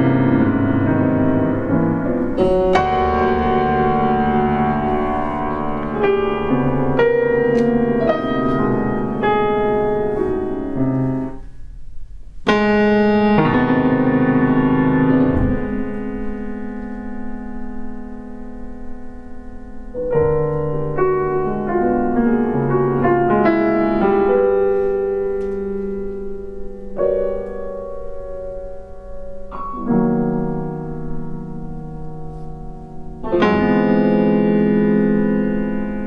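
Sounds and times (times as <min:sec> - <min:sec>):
grand piano chords: 0:00.0 - 0:36.0.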